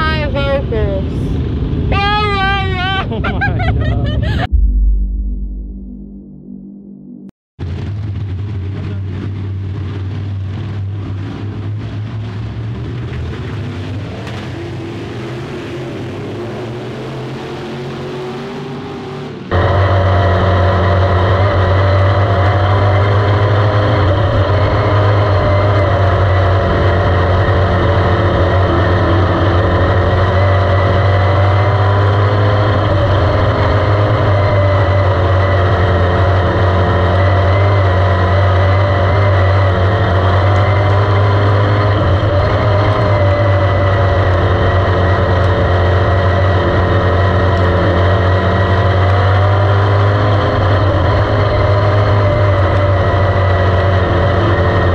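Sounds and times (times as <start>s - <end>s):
race car engine at speed: 7.6s - 54.9s.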